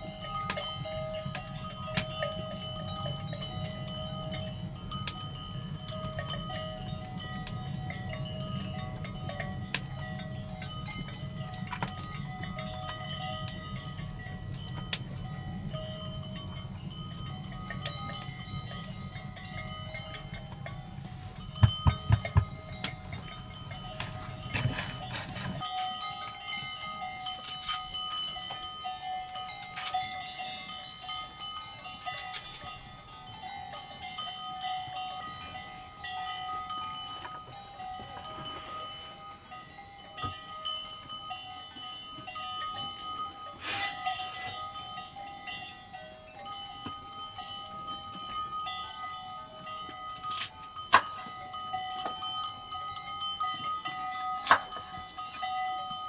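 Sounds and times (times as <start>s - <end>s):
livestock bells ringing: 0.0s - 56.0s.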